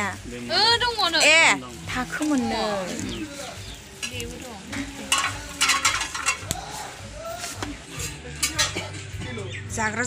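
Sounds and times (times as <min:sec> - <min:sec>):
faint voices: 0:00.0 - 0:10.0
rustling handling noise: 0:00.6 - 0:09.0.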